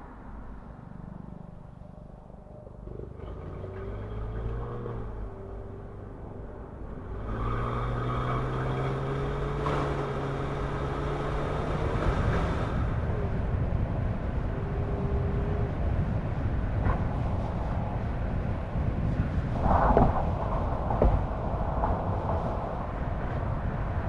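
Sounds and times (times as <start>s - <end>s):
car engine hum: 0.0s - 24.0s
tyre road noise: 0.0s - 24.0s.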